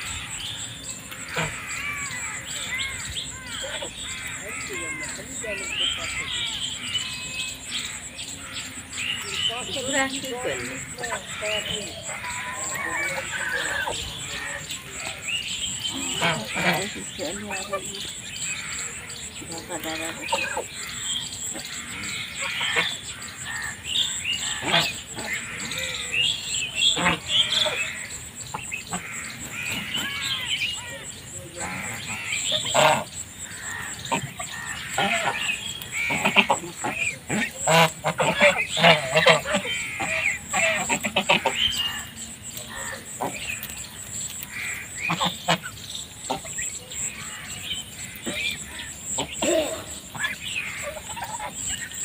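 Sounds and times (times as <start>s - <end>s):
geese honking: 0.0s - 52.0s.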